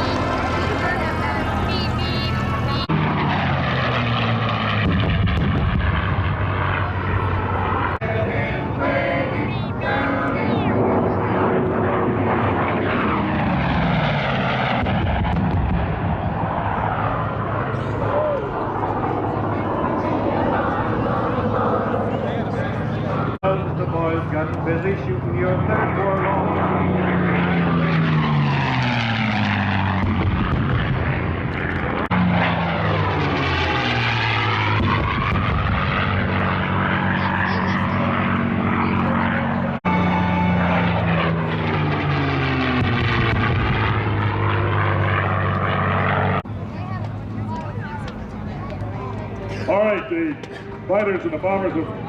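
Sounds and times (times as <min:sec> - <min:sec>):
propeller plane flying overhead: 0:00.0 - 0:52.0.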